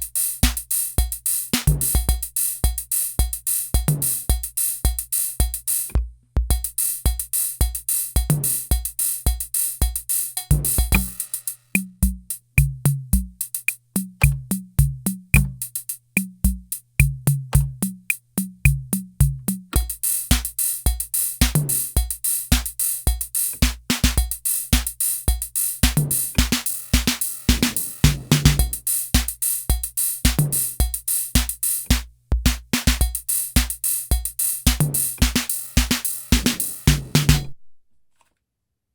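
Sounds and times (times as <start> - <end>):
drum machine pattern: 0.0 - 37.6.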